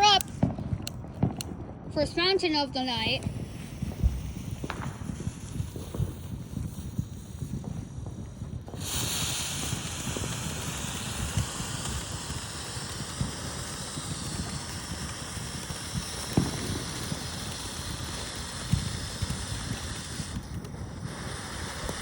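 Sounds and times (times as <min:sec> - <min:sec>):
firework fountain hissing: 0:00.0 - 0:22.0.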